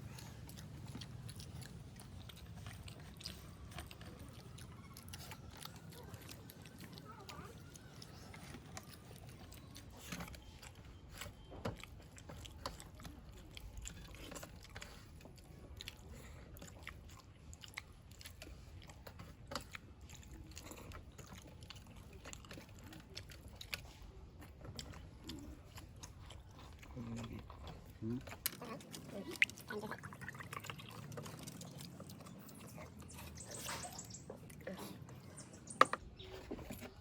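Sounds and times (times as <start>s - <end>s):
chewing and mouth sounds: 0.0s - 37.0s.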